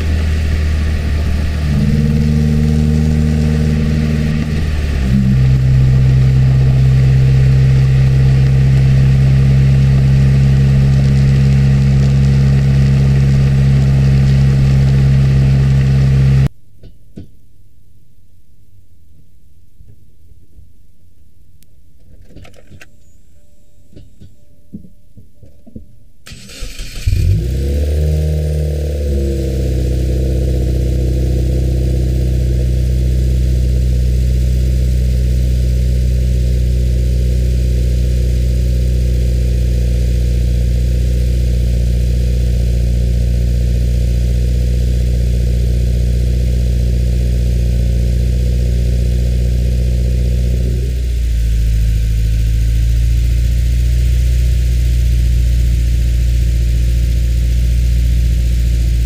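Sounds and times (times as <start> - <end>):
car engine starting and idling: 0.0 - 16.5, 26.2 - 59.0.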